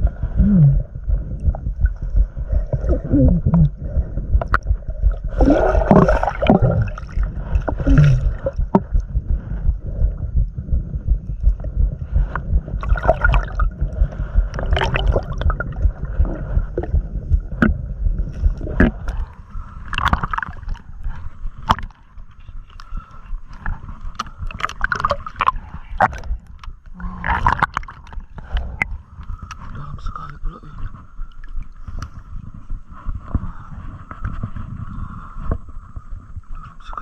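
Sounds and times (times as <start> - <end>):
water gurgling and sloshing: 0.0 - 36.5
low rumble: 0.0 - 37.0.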